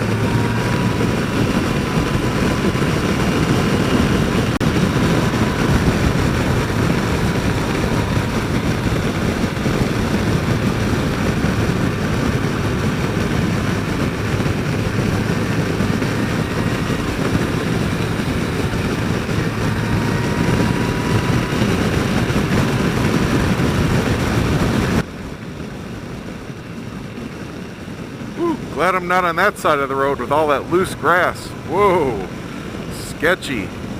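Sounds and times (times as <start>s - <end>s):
motorcycle engine drone: 0.0s - 33.9s
wind rush: 0.0s - 33.9s.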